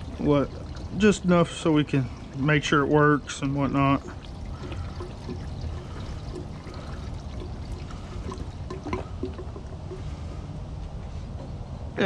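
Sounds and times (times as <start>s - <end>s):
fuel pouring into tank: 0.0s - 10.6s.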